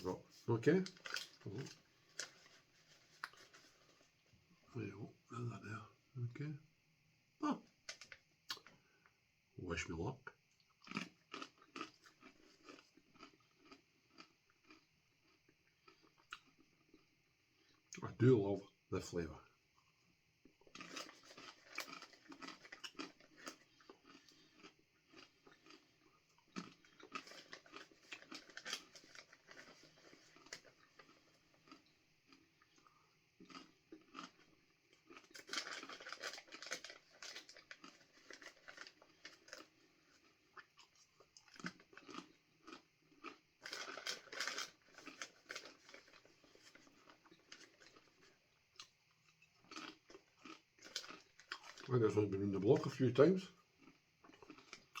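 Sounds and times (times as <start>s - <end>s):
crunching of dried banana chips: 0.0s - 4.2s, 10.6s - 18.0s, 19.8s - 55.0s.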